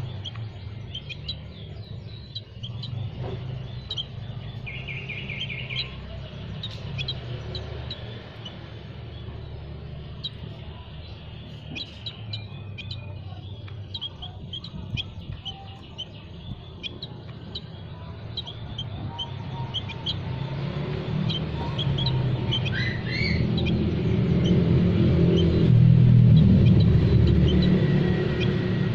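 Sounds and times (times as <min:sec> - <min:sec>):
low rumble: 0:00.0 - 0:28.9
small songbirds chirping: 0:00.0 - 0:28.9.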